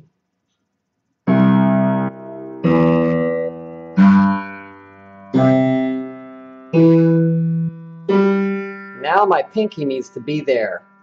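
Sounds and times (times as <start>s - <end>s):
piano notes ringing: 1.3s - 11.0s.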